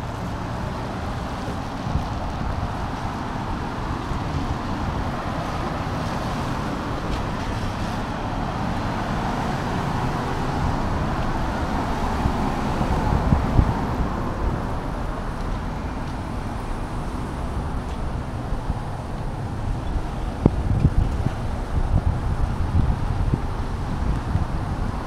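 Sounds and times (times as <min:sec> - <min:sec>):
tyres hissing on wet road: 0:00.0 - 0:25.0
wind buffeting microphone: 0:00.0 - 0:25.0.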